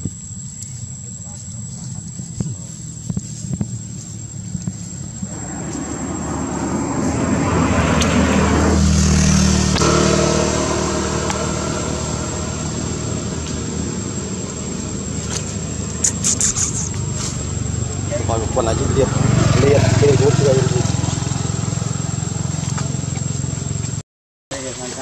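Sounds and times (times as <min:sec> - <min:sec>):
vehicle engine droning: 0:01.4 - 0:24.0.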